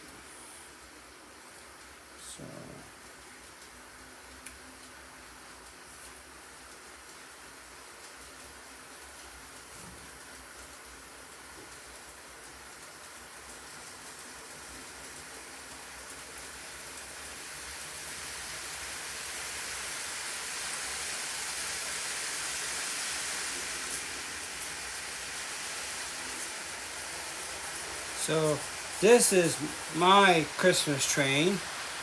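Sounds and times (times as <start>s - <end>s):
model train rolling on track: 0.0s - 32.0s.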